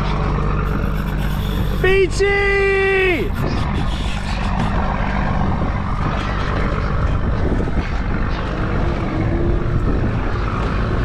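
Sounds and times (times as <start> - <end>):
outboard motors droning: 0.0 - 11.0
water noise: 0.0 - 11.0
wind: 0.0 - 11.0.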